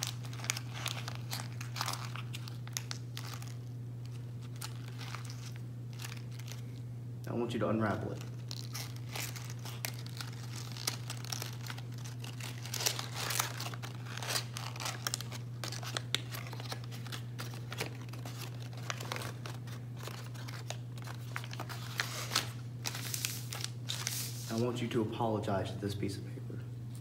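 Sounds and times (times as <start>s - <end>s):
paper crinkling: 0.0s - 6.9s, 7.7s - 24.7s
steady low hum: 0.0s - 27.0s.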